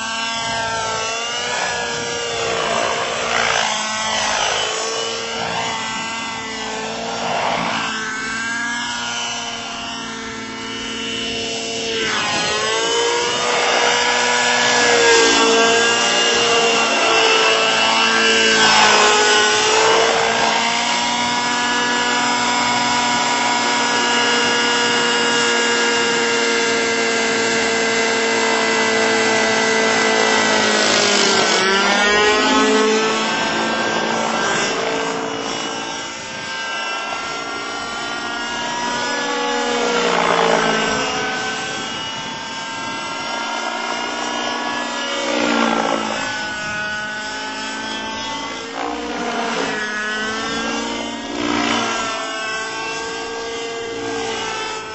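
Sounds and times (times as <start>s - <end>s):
model helicopter engine and rotor whine: 0.0s - 54.9s.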